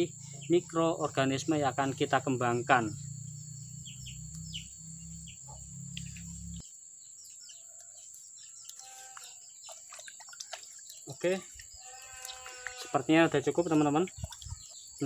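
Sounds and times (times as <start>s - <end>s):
bird chirps: 0.0s - 12.8s, 13.4s - 15.0s
insects droning: 0.0s - 15.0s.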